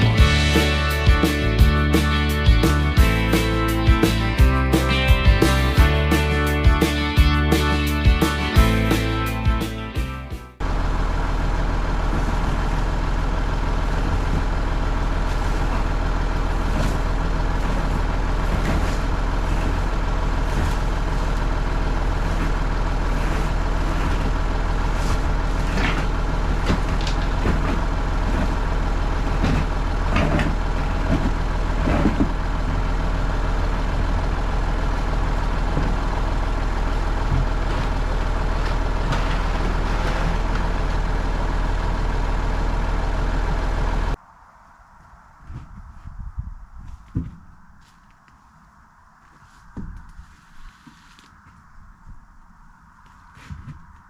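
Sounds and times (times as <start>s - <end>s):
tractor engine running: 0.0s - 44.2s.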